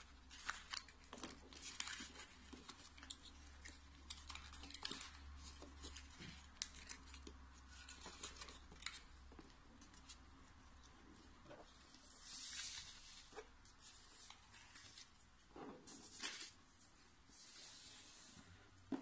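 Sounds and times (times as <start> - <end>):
paper rustling and crinkling: 0.0 - 10.2, 11.5 - 18.4.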